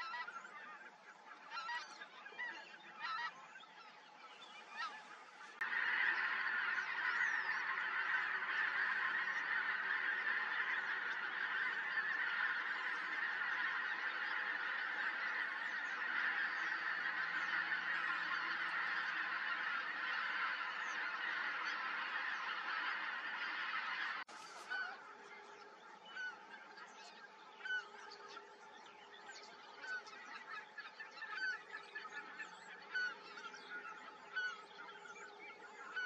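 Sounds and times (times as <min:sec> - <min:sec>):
flock of waterbirds calling: 0:00.0 - 0:36.0.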